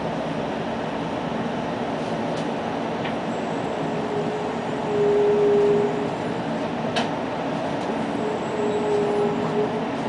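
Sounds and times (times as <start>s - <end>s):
train cabin hum: 0.0s - 10.0s.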